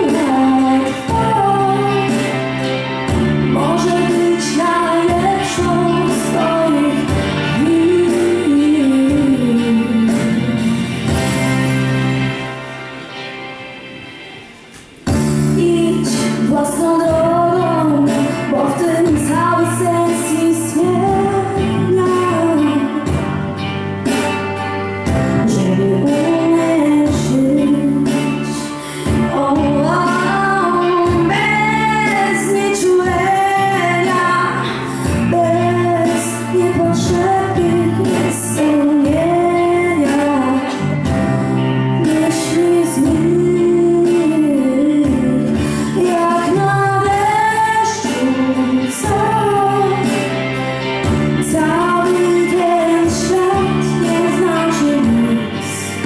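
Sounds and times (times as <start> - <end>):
girl singing into microphone: 0.0 - 12.5, 14.7 - 56.0
instrumental backing music: 0.0 - 56.0.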